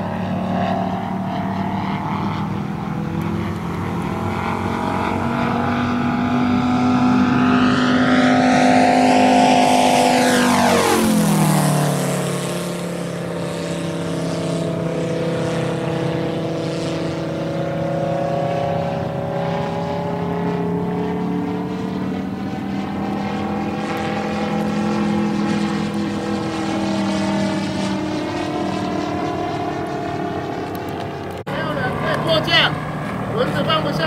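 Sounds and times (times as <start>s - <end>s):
model plane engine droning: 0.0s - 34.0s.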